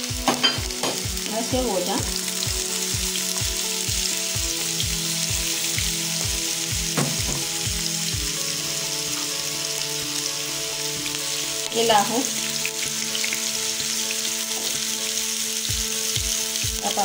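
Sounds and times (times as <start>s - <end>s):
background music with beat: 0.0s - 11.6s, 12.4s - 17.0s
vegetables sizzling in oil: 0.0s - 17.0s.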